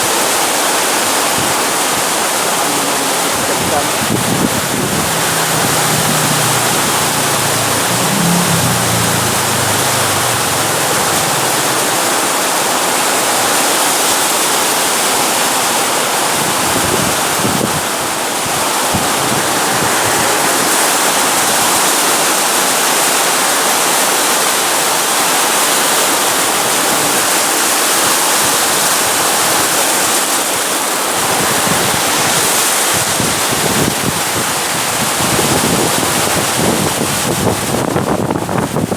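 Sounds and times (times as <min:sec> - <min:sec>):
wind buffeting microphone: 0:00.0 - 0:23.6, 0:31.0 - 0:38.9
heavy rain pouring: 0:00.0 - 0:38.9.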